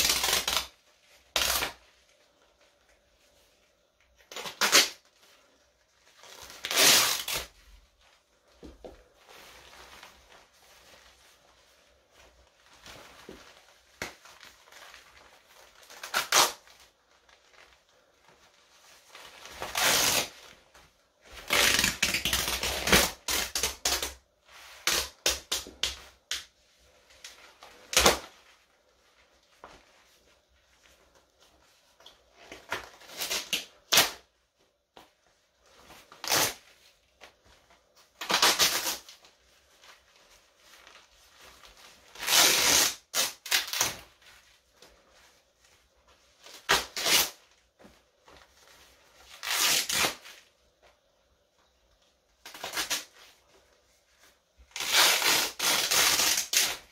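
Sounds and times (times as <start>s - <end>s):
fabric rustling and ripping: 0.0s - 51.0s, 52.4s - 56.9s.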